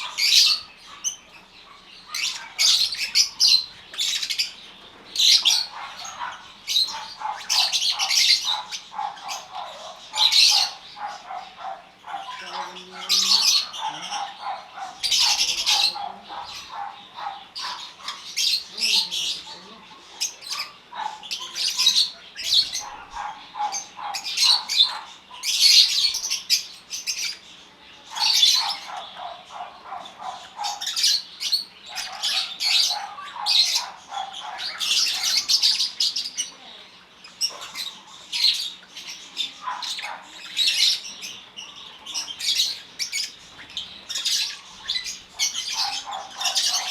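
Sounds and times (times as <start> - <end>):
birds chattering and squawking: 0.0 - 46.9.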